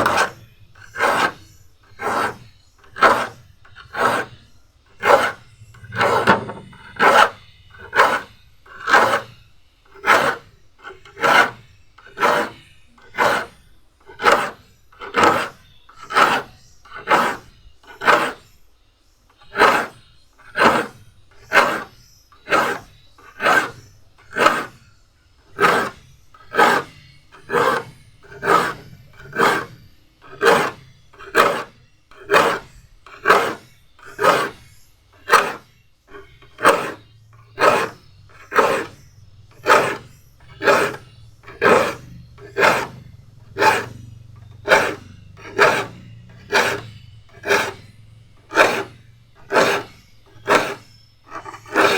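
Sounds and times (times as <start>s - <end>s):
file rasping on saw teeth: 0.0s - 18.6s, 19.3s - 51.9s.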